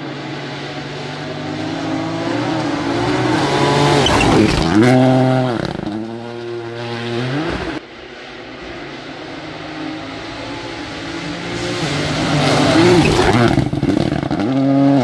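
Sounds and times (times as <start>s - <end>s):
distant car engine: 0.0s - 15.0s
rally car engine passing: 0.0s - 15.0s.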